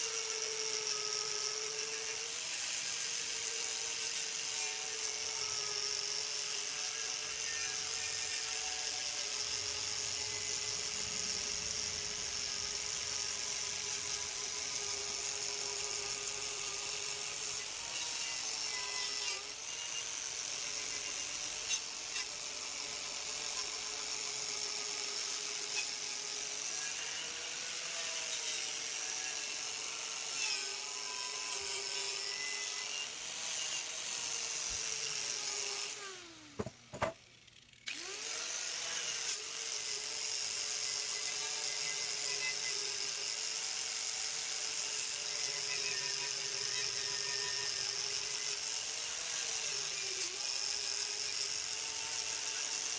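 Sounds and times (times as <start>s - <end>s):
electric power tool whining: 0.0s - 37.2s, 37.8s - 48.5s.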